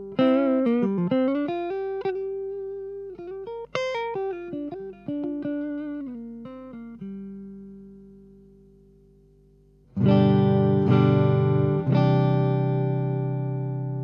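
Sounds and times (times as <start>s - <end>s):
electric guitar melody: 0.0s - 14.0s.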